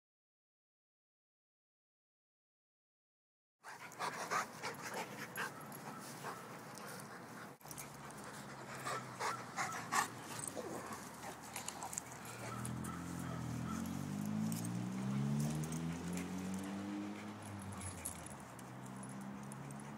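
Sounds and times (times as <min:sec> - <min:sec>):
dog panting: 0:03.6 - 0:19.9.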